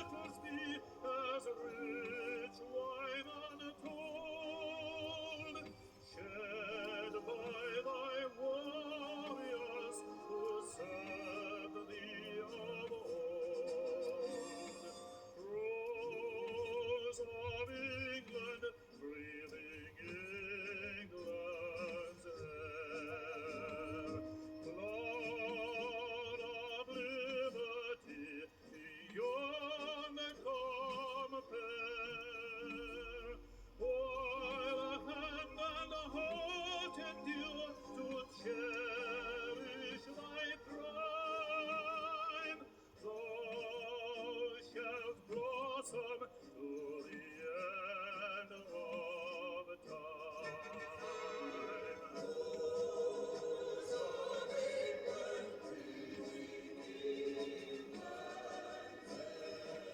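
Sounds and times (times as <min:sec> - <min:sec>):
operatic singing with orchestra: 0:00.0 - 0:59.9.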